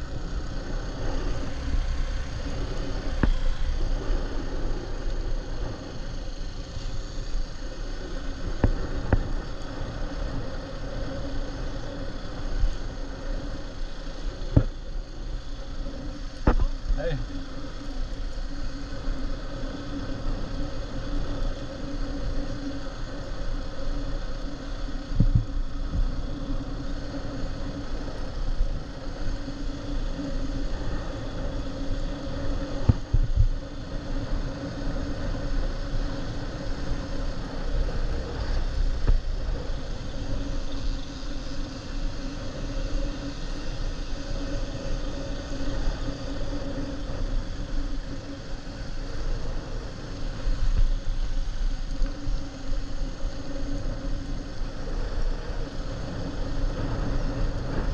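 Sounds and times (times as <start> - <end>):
road and wind rumble: 0.0 - 57.9.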